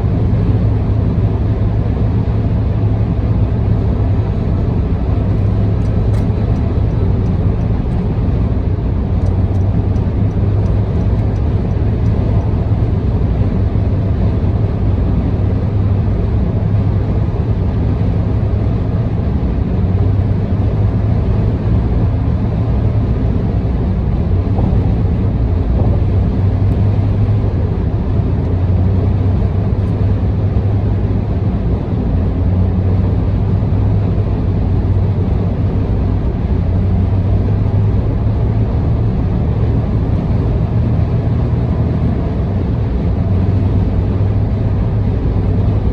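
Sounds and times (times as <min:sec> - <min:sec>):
car interior road rumble: 0:00.0 - 0:45.9.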